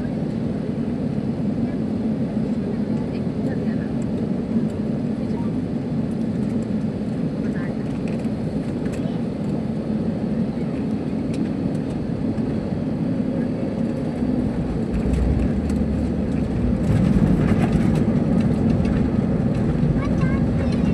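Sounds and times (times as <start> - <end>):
airliner cabin rumble: 0.0 - 20.9.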